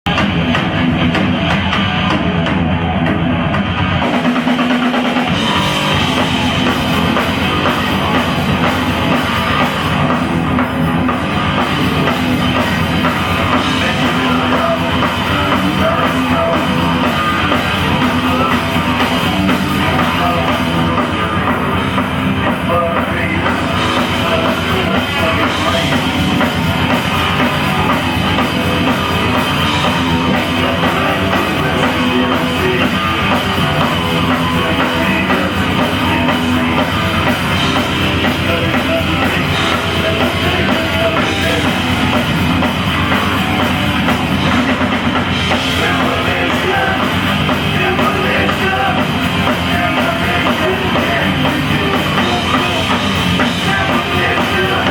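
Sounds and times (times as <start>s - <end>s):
live hard rock band: 0.0s - 54.9s.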